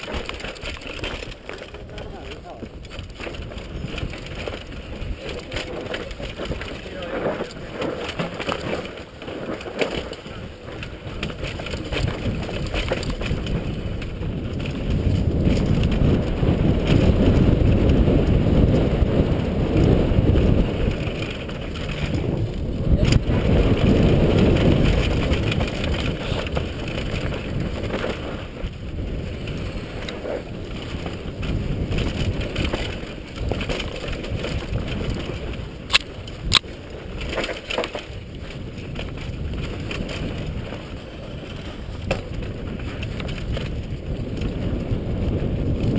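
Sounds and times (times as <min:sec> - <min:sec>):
bike rattling over bumps: 0:00.0 - 0:45.9
bike tyres on dirt trail: 0:00.0 - 0:45.9
wind rumbling on camera: 0:00.0 - 0:45.9.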